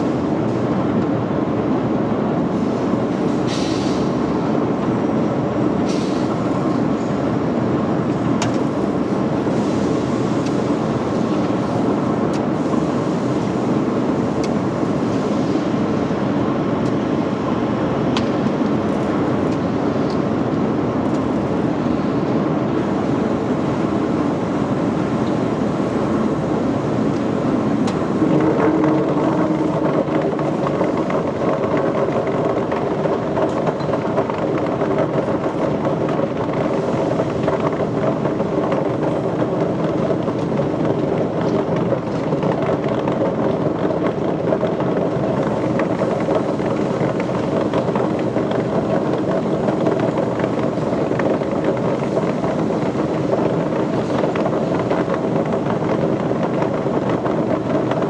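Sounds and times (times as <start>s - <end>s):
loud machinery noise: 0.0s - 58.0s.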